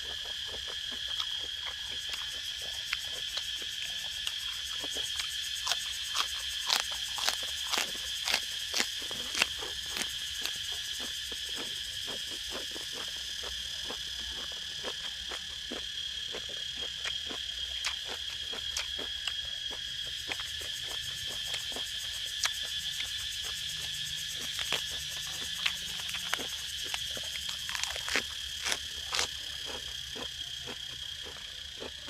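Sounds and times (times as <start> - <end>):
crickets chirping: 0.0 - 32.0
person chewing crunchy food: 0.0 - 32.0.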